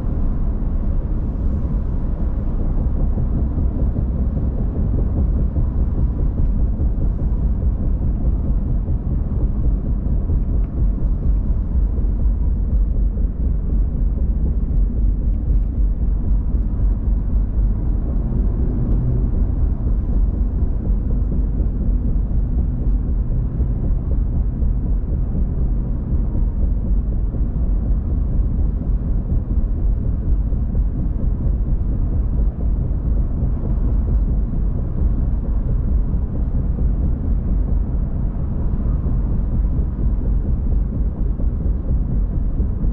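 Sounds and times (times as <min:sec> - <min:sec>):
car road and engine rumble: 0:00.0 - 0:42.9.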